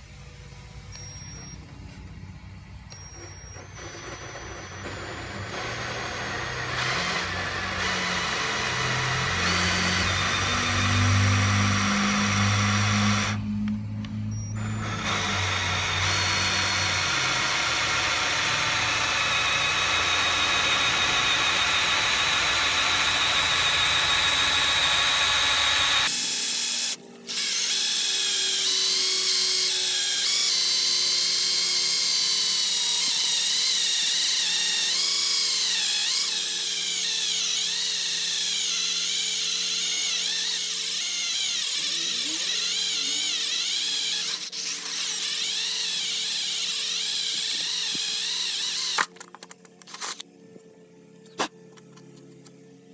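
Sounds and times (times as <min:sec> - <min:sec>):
electric drill whining into wood: 0:00.0 - 0:02.2, 0:02.8 - 0:50.3.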